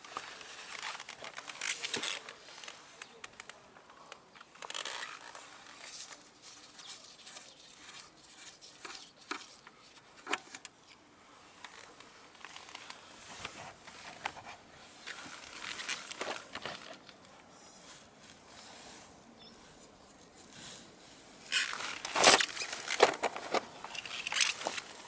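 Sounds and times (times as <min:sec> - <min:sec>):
gloved hands handling parts: 0:00.0 - 0:25.0.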